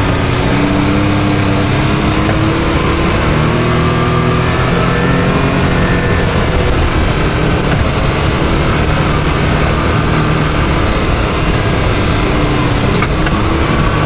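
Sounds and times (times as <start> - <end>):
engine running: 0.0 - 14.0
steady rushing noise: 0.0 - 14.0.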